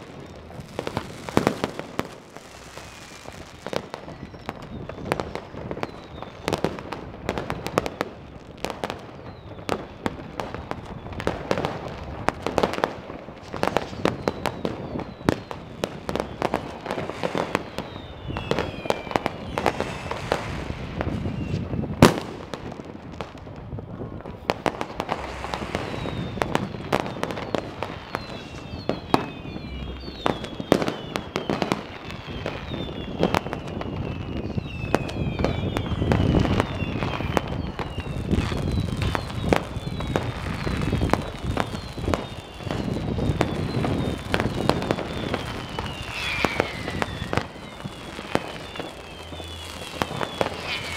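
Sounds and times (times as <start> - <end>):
falling firework whistles: 0.0 - 50.9
firework bangs and crackles: 0.0 - 50.9.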